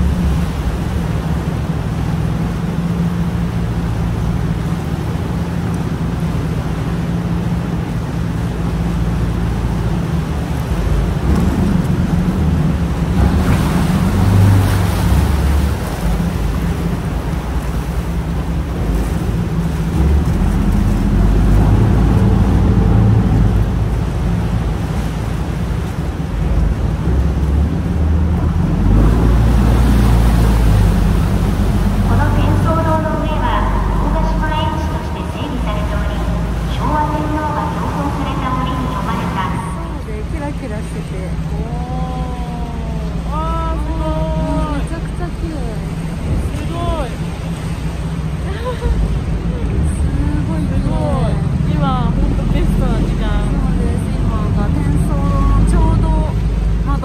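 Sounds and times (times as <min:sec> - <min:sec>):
boat engine running: 0:00.0 - 0:57.0
sea water sloshing against hull: 0:00.0 - 0:57.0.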